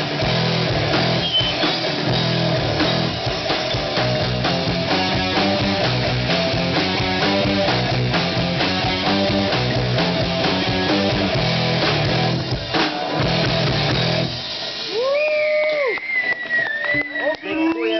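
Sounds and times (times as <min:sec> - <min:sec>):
loud rock band playing: 0:00.0 - 0:17.9.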